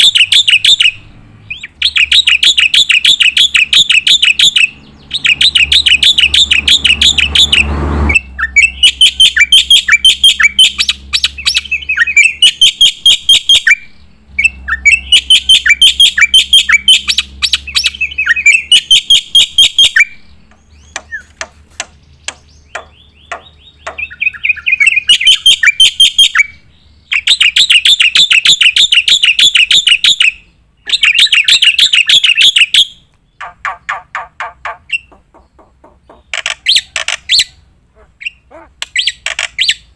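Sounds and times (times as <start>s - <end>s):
bird rapid chirping song: 0.0s - 39.9s.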